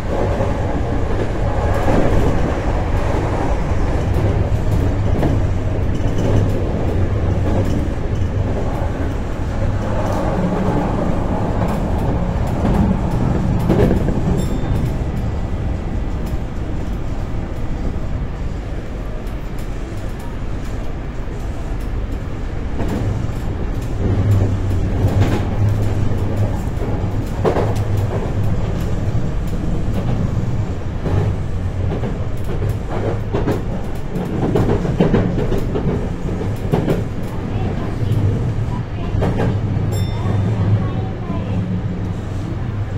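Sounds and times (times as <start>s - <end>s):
train rumble inside car: 0.0s - 42.9s.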